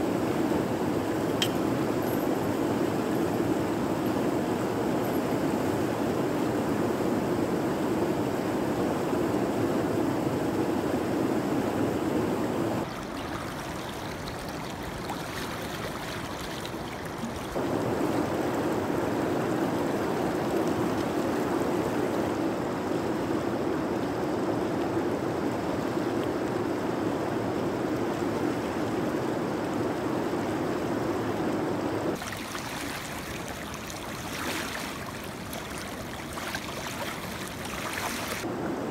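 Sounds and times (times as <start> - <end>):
river water flowing over riffle: 0.0 - 38.9.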